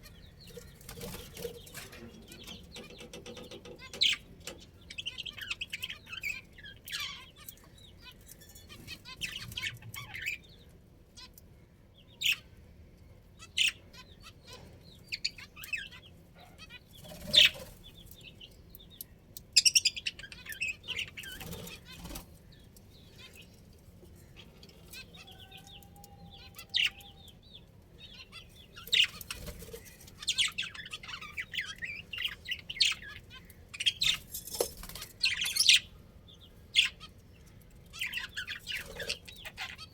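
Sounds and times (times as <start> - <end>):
budgerigars chirping and chattering: 0.0 - 12.6, 13.3 - 39.9.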